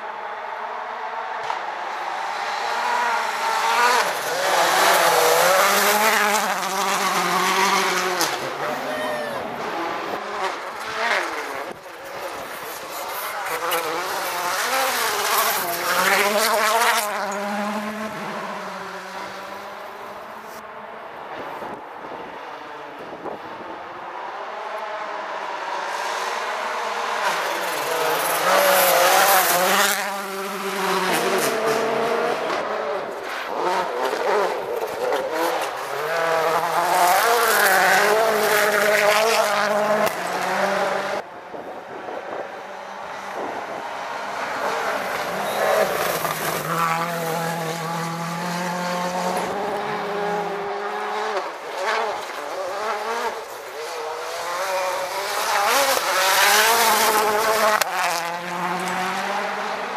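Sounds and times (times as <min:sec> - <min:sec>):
rally car passing at speed: 0:00.1 - 0:59.9.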